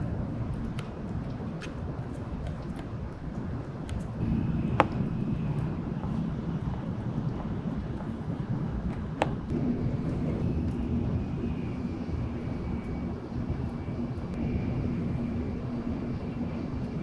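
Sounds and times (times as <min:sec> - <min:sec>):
train cabin rumble and hum: 0:00.0 - 0:17.0.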